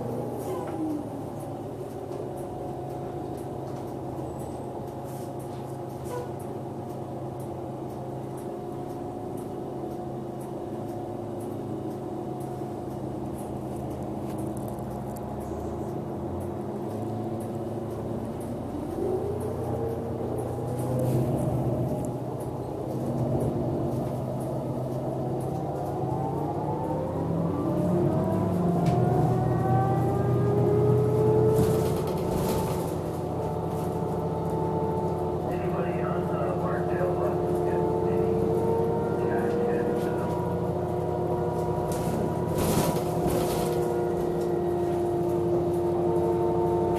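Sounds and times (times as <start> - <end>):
bus engine humming: 0.0 - 46.9.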